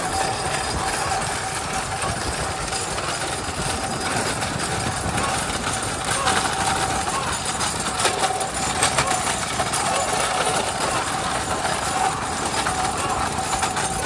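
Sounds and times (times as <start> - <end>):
cart wooden wheels rattling: 0.0 - 14.0
hooves on the road: 0.0 - 14.0
small motorbike engine running: 0.0 - 14.0.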